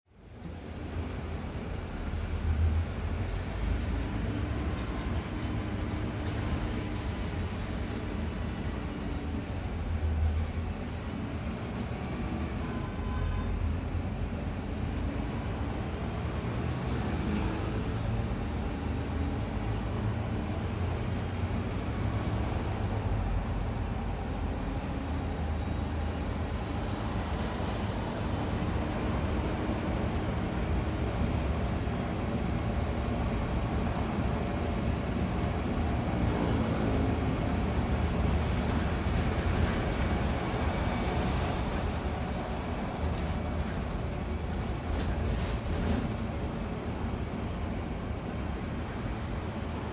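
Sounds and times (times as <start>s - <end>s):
bus engine and road rumble: 0.1s - 49.9s.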